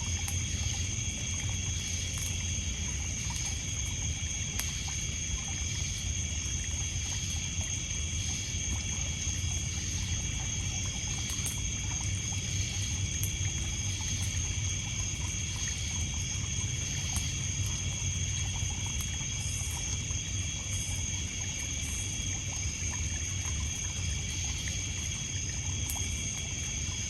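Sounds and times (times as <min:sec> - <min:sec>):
crickets trilling: 0:00.0 - 0:27.0
campfire wood crackles: 0:00.1 - 0:27.0.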